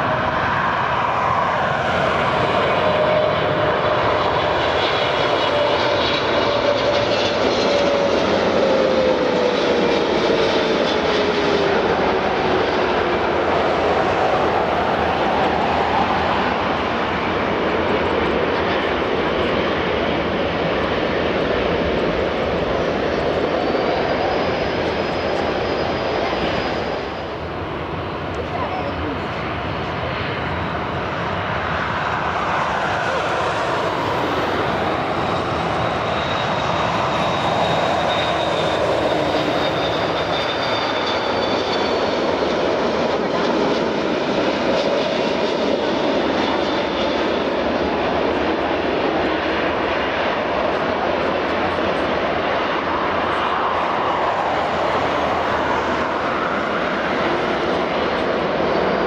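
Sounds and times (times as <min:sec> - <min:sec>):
jet engines rolling: 0:00.0 - 0:59.0.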